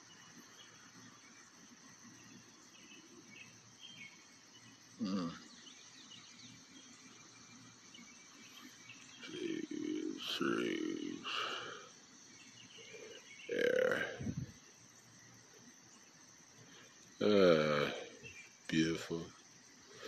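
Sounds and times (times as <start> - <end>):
faint outdoor ambience: 0.0 - 20.0.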